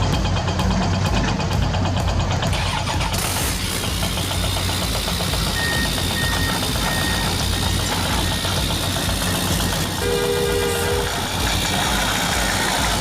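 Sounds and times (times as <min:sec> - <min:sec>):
toy excavator motor rumbling: 0:02.3 - 0:13.0.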